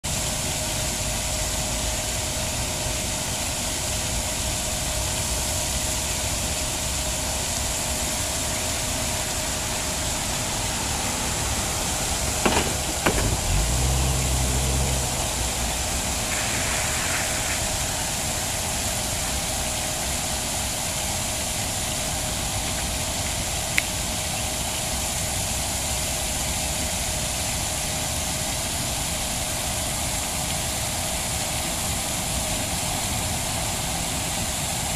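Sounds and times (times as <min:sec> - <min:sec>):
mechanical drone with hum: 0:00.1 - 0:28.6.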